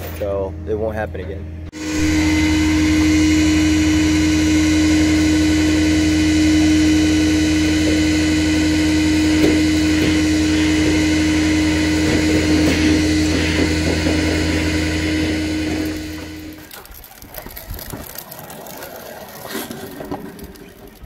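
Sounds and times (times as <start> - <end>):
mechanical hum with whining tones: 0.0 - 21.0.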